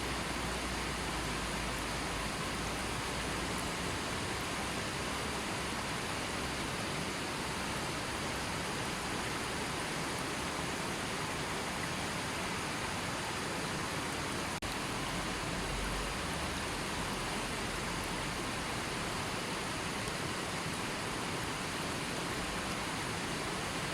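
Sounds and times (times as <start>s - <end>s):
river water rushing: 0.0s - 23.9s.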